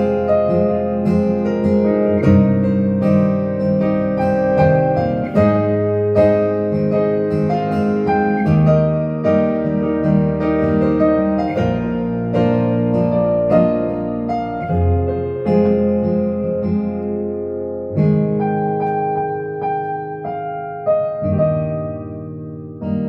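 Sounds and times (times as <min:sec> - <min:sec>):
digital piano playing sustained chords: 0:00.0 - 0:23.0.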